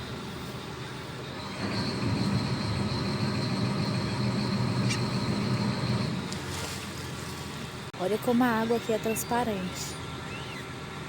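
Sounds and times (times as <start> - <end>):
boat engine rumbling: 0.0 - 11.0
thin steady whine: 0.0 - 11.0.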